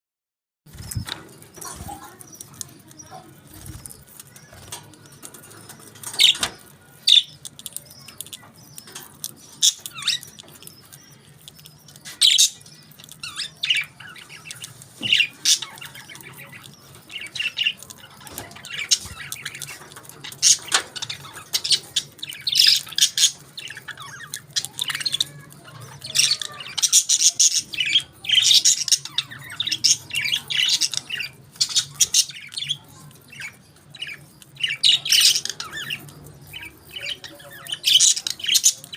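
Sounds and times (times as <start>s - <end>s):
budgerigars chirping and squawking: 0.7s - 38.9s.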